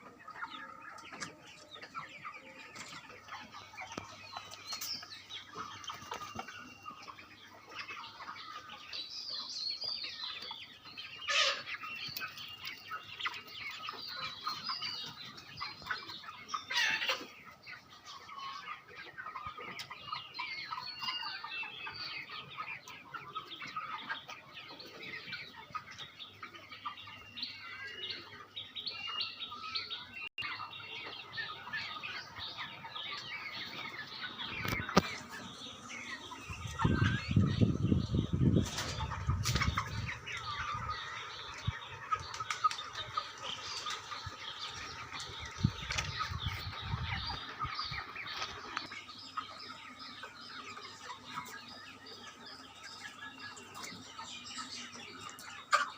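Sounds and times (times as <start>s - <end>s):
chickens chirping: 0.0s - 55.9s.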